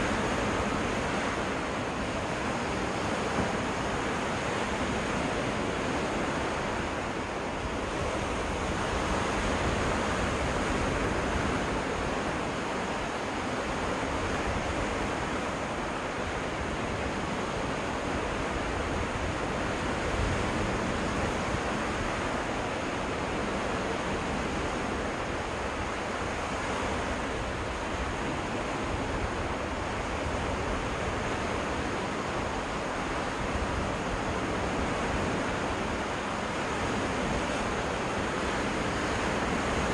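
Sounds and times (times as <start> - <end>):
waves washing ashore: 0.0 - 39.9.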